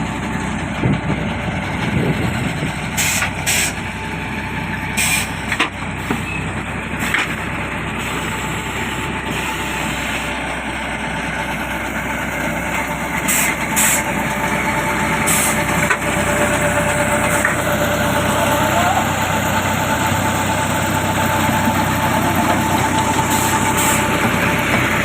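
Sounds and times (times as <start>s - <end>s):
machine engine running: 0.0s - 25.0s.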